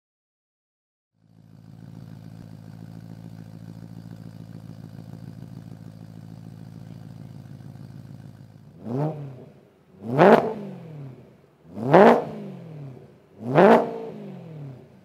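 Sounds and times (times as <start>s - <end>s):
car engine idling: 1.2s - 15.0s.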